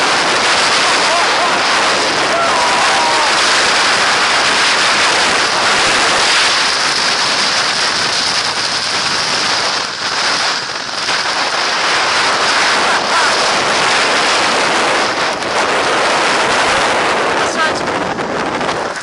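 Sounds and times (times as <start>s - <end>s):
snow pelting camera: 0.0s - 19.0s
wind on camera microphone: 0.0s - 19.0s.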